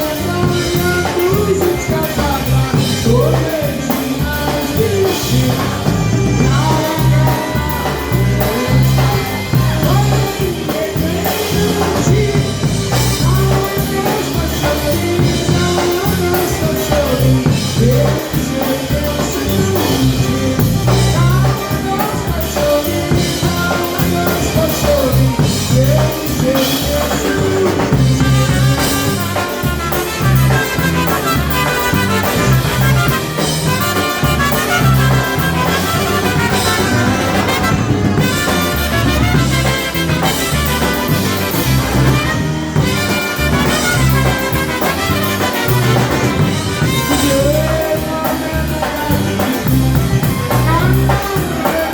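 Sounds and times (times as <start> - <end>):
bass line: 0.0 - 51.9
drum kit beat: 0.0 - 51.9
polka band playing: 0.0 - 51.9.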